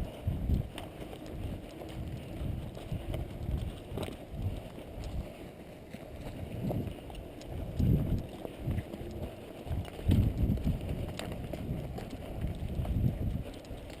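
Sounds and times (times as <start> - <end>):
footsteps walking: 0.0 - 14.0
wind buffeting microphone: 0.0 - 14.0.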